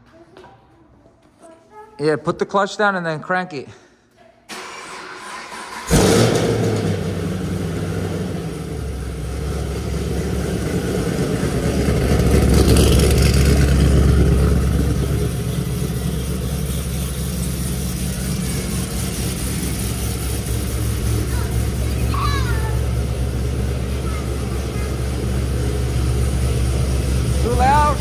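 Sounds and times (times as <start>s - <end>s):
car engine idling: 4.5s - 28.0s.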